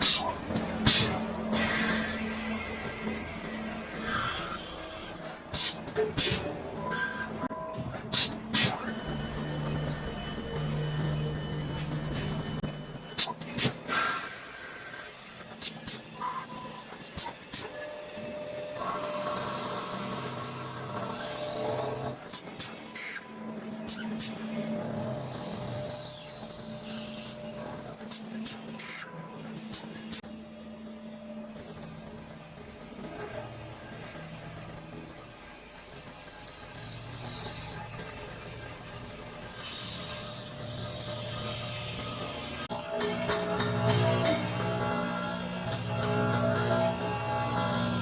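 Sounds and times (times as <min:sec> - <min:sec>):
machine motor hum and hiss: 0:00.0 - 0:07.3, 0:08.1 - 0:30.2, 0:31.5 - 0:48.0.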